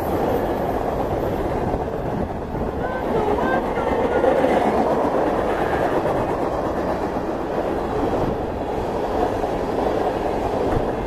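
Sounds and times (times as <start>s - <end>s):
steel wheels running on rails: 0.0s - 11.0s.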